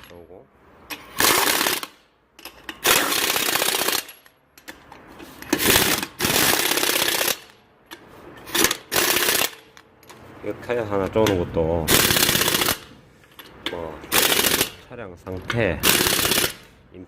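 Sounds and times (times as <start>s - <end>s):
impact wrench rattling: 0.9s - 10.2s, 11.2s - 16.7s.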